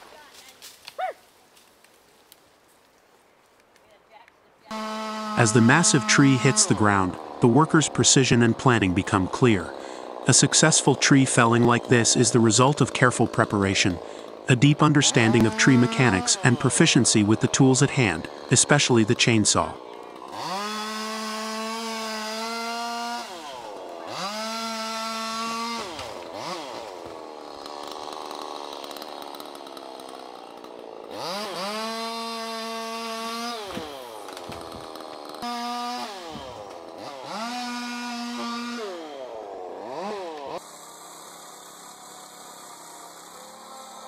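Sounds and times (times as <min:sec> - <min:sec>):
chainsaw revving: 0:04.7 - 0:44.0.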